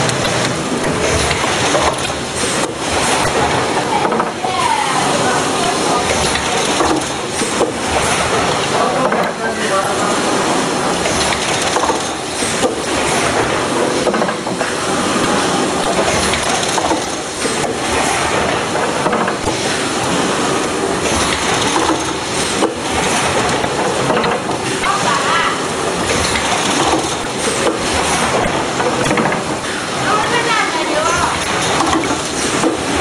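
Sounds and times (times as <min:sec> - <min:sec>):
factory machinery running: 0:00.0 - 0:33.0.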